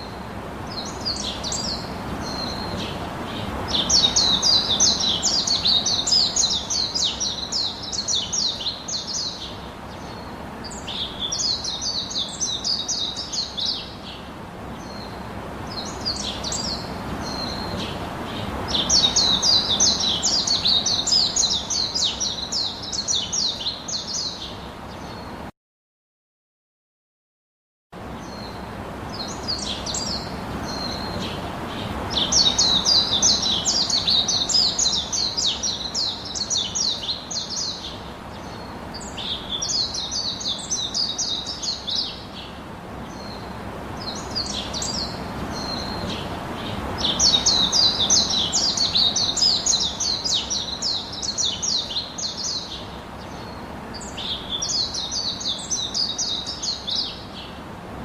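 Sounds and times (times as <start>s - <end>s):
small birds twittering: 0.0s - 25.5s, 28.0s - 58.0s.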